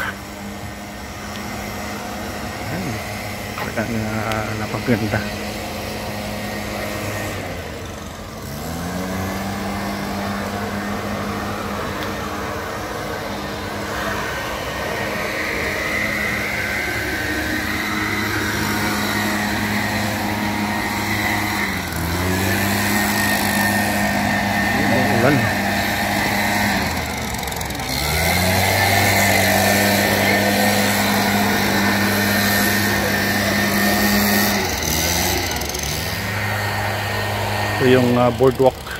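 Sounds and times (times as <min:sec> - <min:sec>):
motor engine running: 0:00.0 - 0:38.9.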